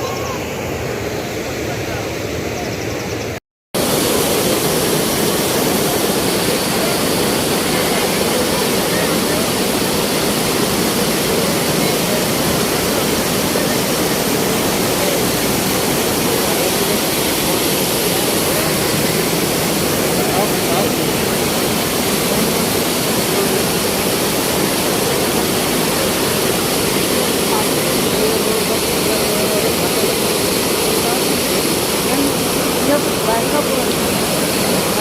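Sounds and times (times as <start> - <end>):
floodwater rushing: 3.8 - 35.0.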